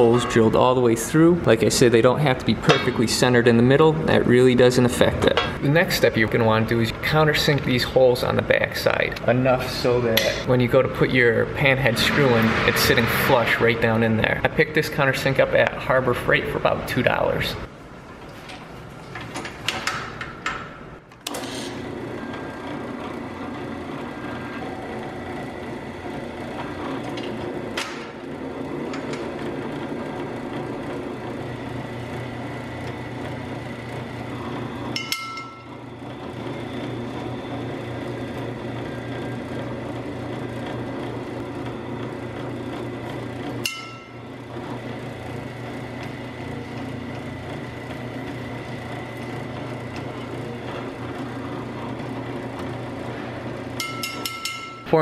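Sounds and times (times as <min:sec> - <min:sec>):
drill press running: 0:00.0 - 0:55.0.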